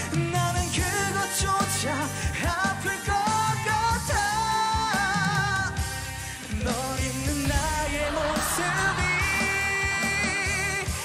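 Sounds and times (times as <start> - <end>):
band accompaniment: 0.0 - 11.0
man singing ballad into microphone: 0.0 - 11.0.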